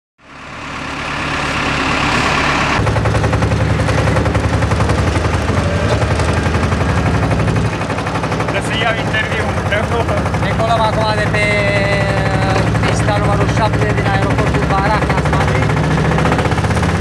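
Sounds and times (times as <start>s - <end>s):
vehicle engine rattling: 0.2s - 17.0s.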